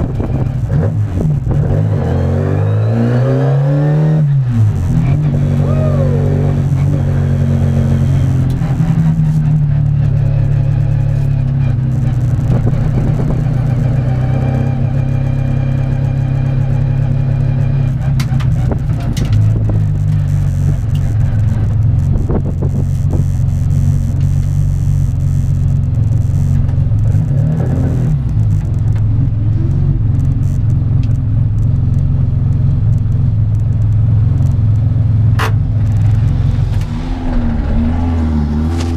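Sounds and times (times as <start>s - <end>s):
car engine running at low revs: 0.0s - 38.9s.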